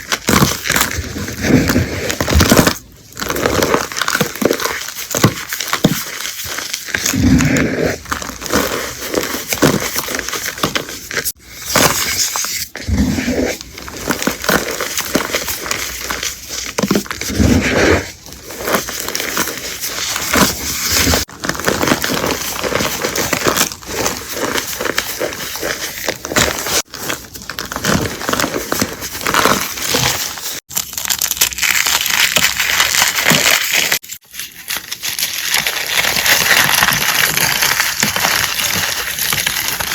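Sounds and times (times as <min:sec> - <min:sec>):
brittle material crunching: 0:00.0 - 0:39.9.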